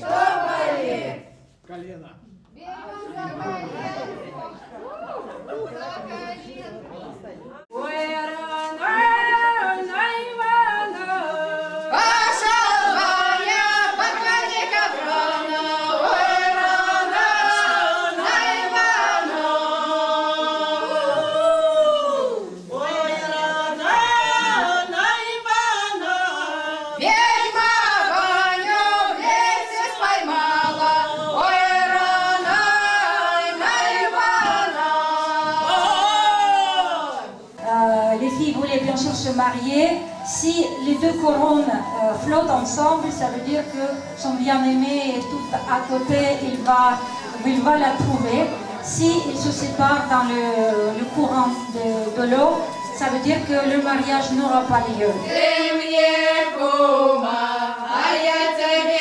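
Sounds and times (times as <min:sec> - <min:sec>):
women's choir singing a cappella: 0:00.0 - 0:01.6, 0:07.6 - 0:59.0.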